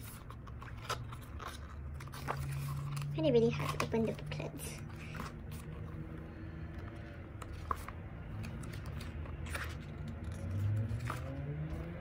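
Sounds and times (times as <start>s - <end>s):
photobook pages turning: 0.0s - 12.0s.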